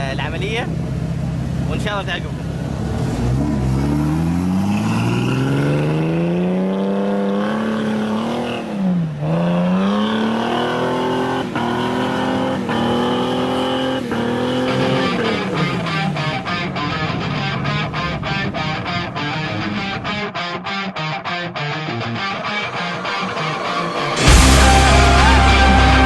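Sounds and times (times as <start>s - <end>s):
car engine accelerating: 0.0s - 20.2s, 21.9s - 26.0s.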